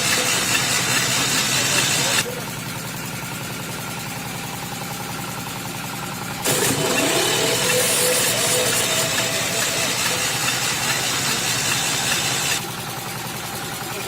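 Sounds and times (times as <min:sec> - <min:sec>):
motor running with loud hiss: 0:00.0 - 0:05.6, 0:06.2 - 0:13.4.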